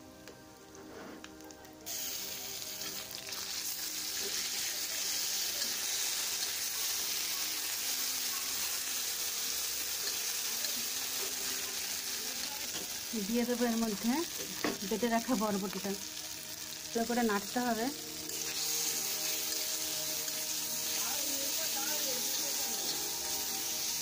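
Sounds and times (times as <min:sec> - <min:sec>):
paste sizzling in hot oil: 0:01.9 - 0:24.0.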